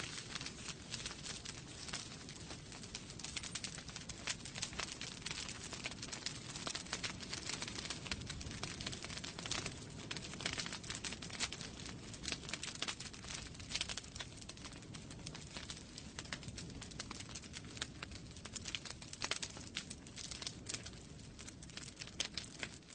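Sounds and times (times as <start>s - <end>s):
wood fire crackling and popping: 0.0s - 22.9s.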